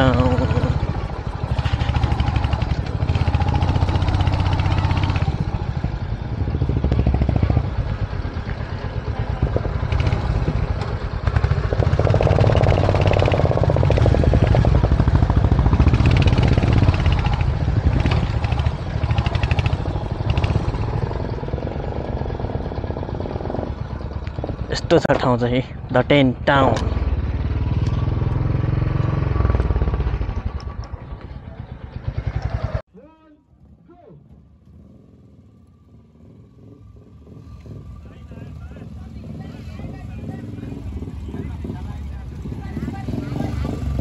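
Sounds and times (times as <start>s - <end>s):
motorcycle engine under load: 0.0s - 32.9s, 33.6s - 44.0s.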